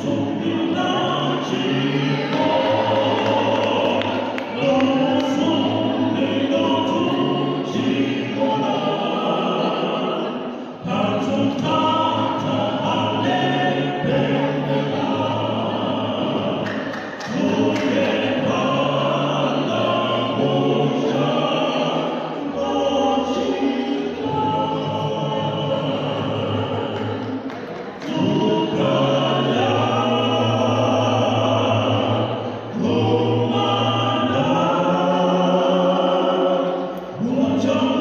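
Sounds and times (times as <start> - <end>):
vocal quartet singing in harmony: 0.0 - 38.0.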